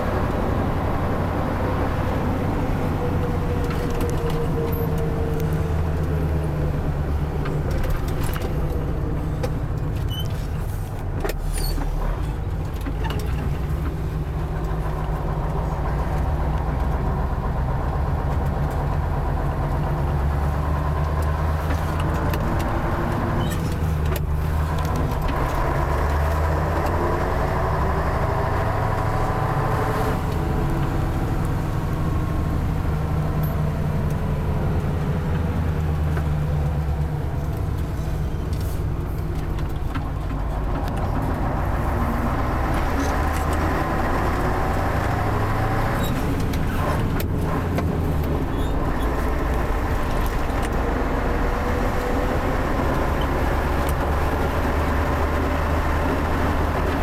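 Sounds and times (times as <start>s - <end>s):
truck engine pulling: 0.0s - 57.0s.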